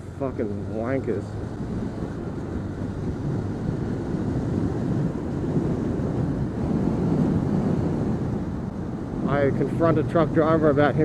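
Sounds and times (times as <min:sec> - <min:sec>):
road noise: 0:00.0 - 0:11.0
wind rushing over microphone: 0:00.0 - 0:11.0.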